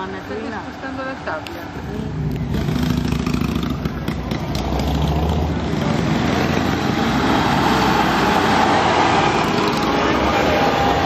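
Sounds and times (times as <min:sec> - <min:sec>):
road train engine running: 0:00.0 - 0:11.0.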